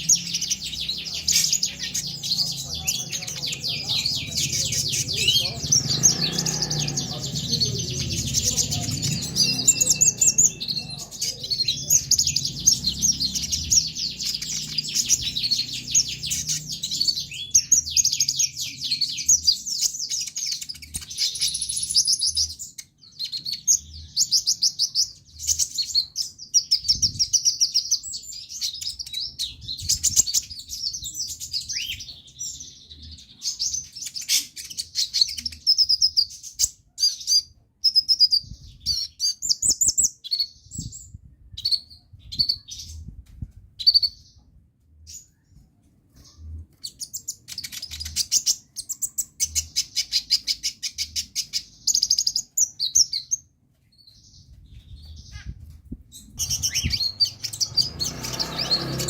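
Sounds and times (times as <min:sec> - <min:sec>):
small bird singing: 0:00.0 - 0:59.0.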